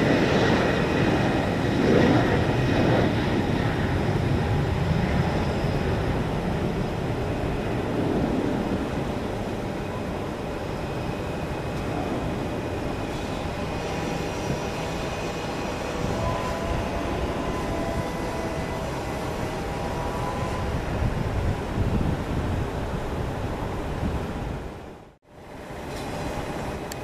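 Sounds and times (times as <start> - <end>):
jet taking off: 0.0 - 24.8.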